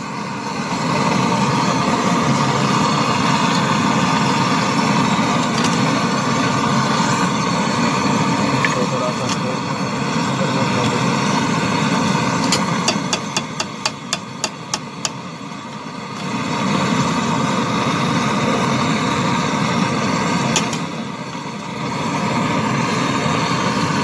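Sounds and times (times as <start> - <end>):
torch flame roaring: 0.0 - 24.0.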